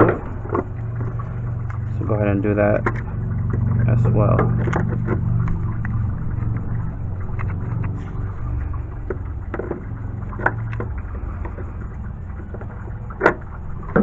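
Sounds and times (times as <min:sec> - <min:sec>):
steady low hum: 0:00.0 - 0:14.0
light clicks and knocks: 0:02.7 - 0:14.0.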